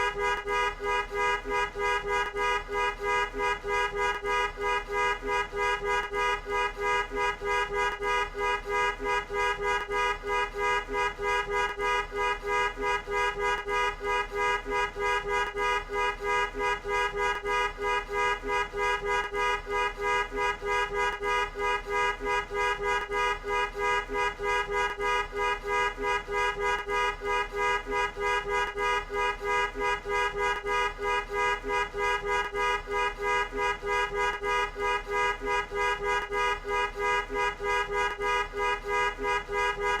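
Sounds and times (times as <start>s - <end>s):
car horn honking: 0.0s - 40.0s.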